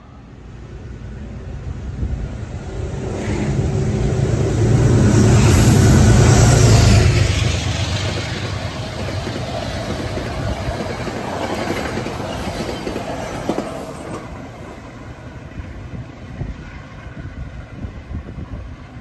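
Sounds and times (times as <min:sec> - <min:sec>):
coach wheels rumbling on rails: 0:00.0 - 0:19.0
locomotive passing at speed: 0:00.3 - 0:19.0.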